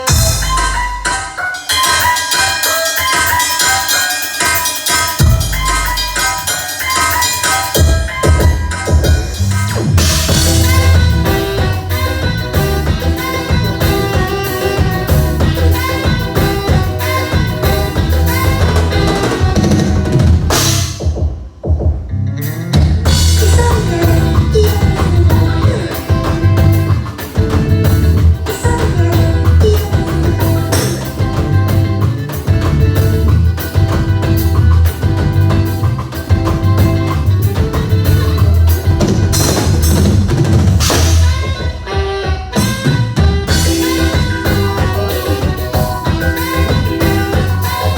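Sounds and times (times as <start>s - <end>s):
bass line: 0.0s - 2.2s, 5.2s - 6.6s, 7.8s - 21.2s, 21.8s - 47.9s
live band playing: 0.0s - 21.6s, 22.4s - 47.9s
drum kit: 0.0s - 47.9s.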